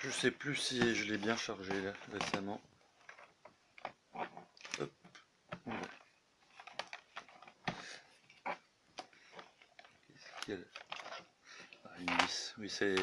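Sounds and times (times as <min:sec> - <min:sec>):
hands handling plastic laptop case: 0:00.0 - 0:13.0.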